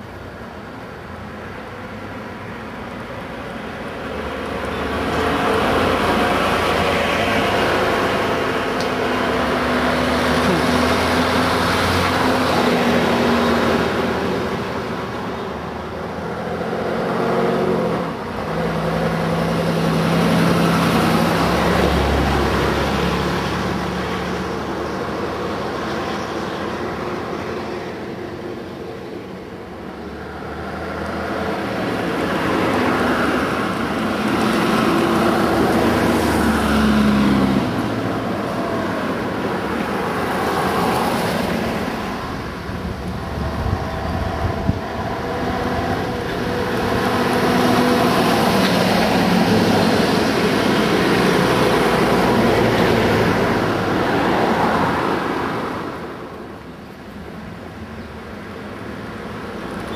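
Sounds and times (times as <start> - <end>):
bus diesel engines passing: 0.0 - 59.9.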